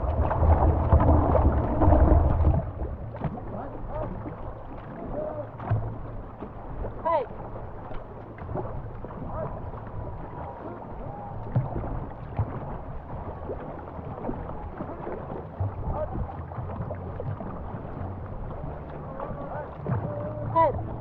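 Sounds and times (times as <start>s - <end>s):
low rumble: 0.0s - 21.0s
paddles pulling through water: 0.0s - 21.0s
water washing along canoe hull: 0.0s - 21.0s.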